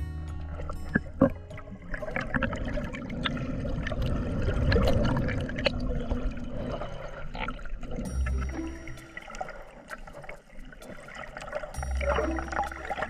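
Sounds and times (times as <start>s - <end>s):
water splashing and gurgling: 0.3s - 13.0s.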